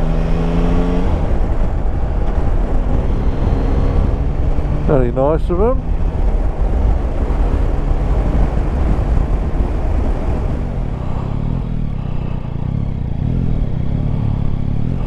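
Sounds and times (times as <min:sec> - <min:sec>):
motorcycle engine running: 0:00.0 - 0:15.0
road noise: 0:00.0 - 0:15.0
wind noise: 0:00.0 - 0:15.0.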